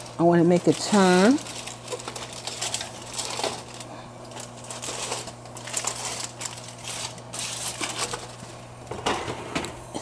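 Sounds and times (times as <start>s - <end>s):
aluminium foil crinkling: 0.0s - 8.6s
steady low hum: 0.0s - 10.0s.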